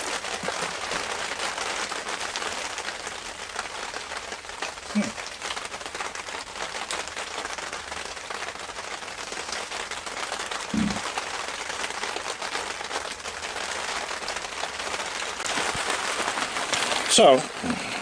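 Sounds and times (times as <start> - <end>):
rain pattering on fabric canopy: 0.0 - 18.0.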